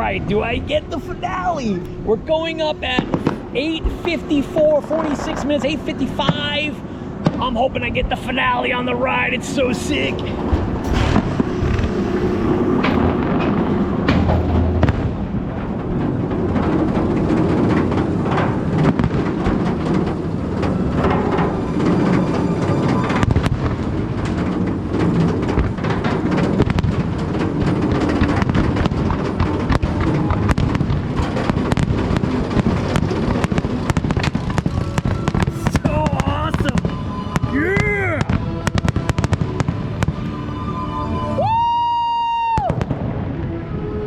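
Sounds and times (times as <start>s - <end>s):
fireworks bangs and crackles: 0.0s - 8.5s, 9.6s - 40.3s, 42.5s - 43.5s.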